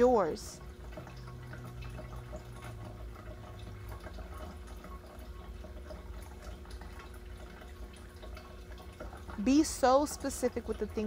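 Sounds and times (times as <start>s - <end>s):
faint dripping water: 0.0s - 11.0s
low steady hum: 0.0s - 11.0s.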